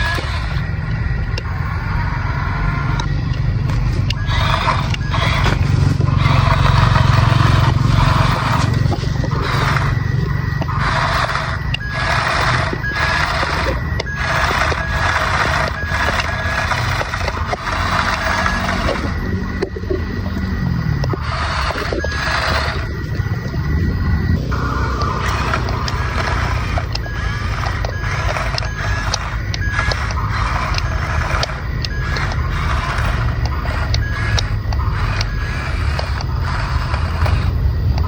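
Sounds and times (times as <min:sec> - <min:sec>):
small electric motors running: 0:00.0 - 0:38.0.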